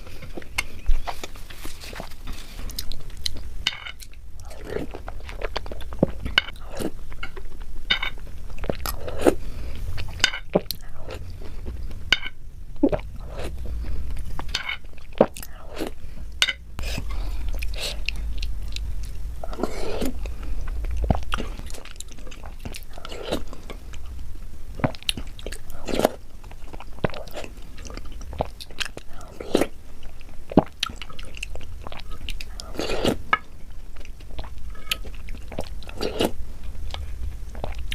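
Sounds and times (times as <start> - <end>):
steady low hum: 0.0 - 37.9
person chewing and crunching: 0.3 - 24.1, 24.8 - 37.9.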